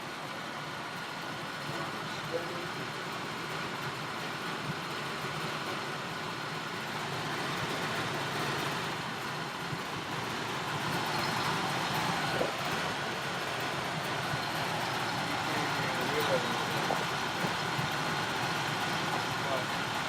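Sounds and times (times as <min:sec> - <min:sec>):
air conditioner whirring: 0:00.0 - 0:20.0.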